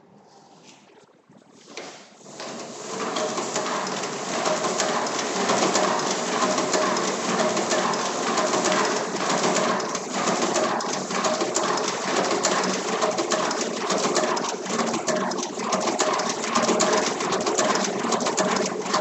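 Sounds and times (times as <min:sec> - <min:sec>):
hand-cranked duplicator clattering: 0:02.4 - 0:19.0.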